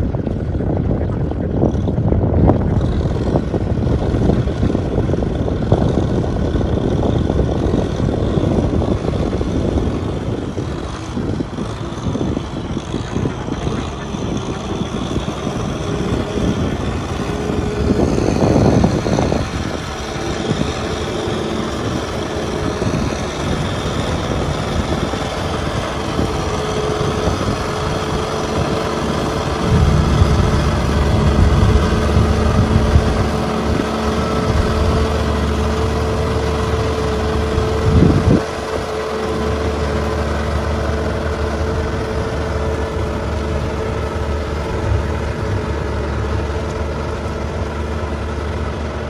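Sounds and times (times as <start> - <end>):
tractor diesel engine under load: 0.0 - 49.0
steady whine: 8.0 - 49.0.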